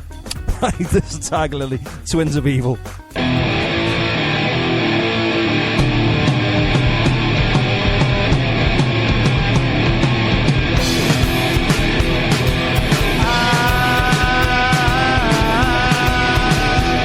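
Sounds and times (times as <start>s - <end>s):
heavy rock song: 3.0s - 17.0s.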